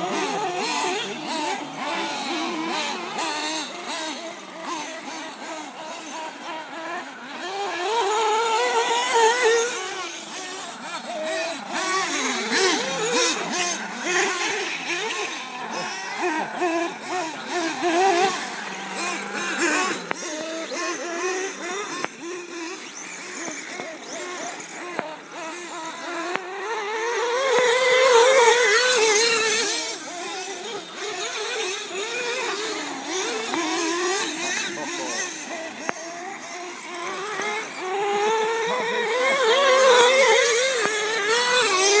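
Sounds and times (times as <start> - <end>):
radio-controlled car motor whine: 0.0 - 42.0.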